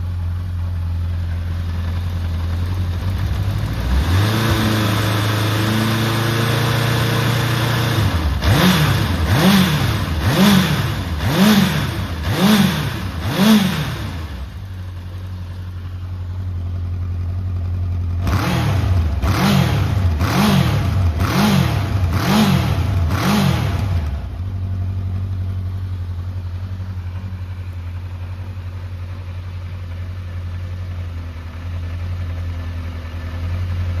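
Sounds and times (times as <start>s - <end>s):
engine throttle blips: 0.0s - 32.4s
motorcycle engine idling: 0.0s - 34.0s.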